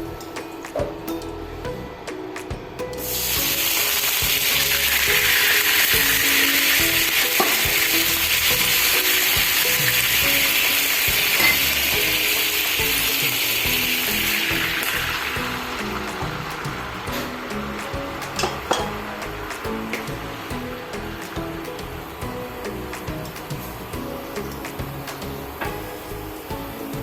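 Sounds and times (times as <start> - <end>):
background music: 0.0 - 27.0
food sizzling in oil: 3.0 - 27.0.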